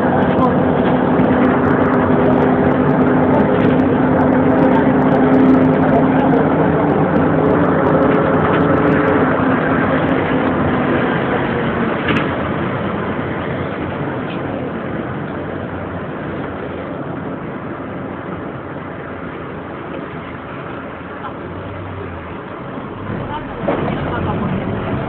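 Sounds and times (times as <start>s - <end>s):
bus diesel engine humming: 0.0s - 25.0s
bus rumble and rattle: 0.0s - 25.0s.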